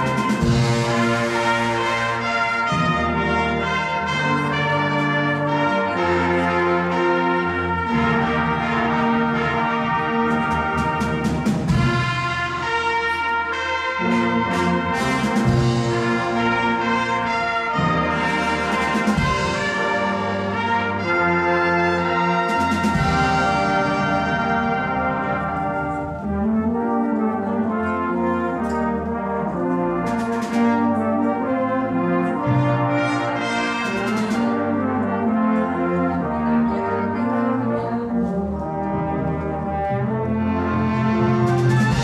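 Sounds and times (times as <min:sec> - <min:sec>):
brass band playing: 0:00.0 - 0:42.0.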